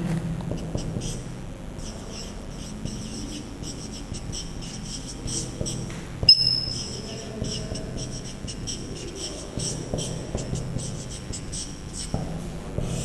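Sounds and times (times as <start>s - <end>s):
marker squeaking on whiteboard: 0.5s - 13.0s.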